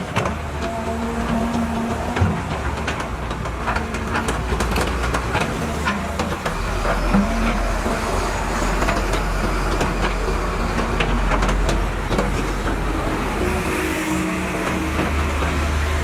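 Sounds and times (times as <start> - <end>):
digging knocks clanks and scrapes: 0.0 - 16.0
excavator diesel engine rumbling: 0.0 - 16.0.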